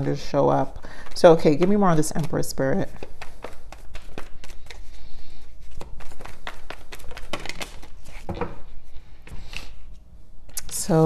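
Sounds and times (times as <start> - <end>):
cards being shuffled: 0.0 - 10.8.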